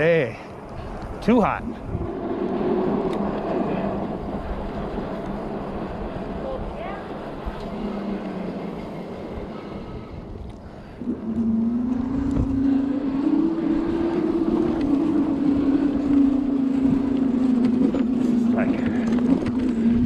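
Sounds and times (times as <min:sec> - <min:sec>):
electric bike motor whining: 0:00.6 - 0:20.0
wind noise on microphone: 0:00.6 - 0:20.0.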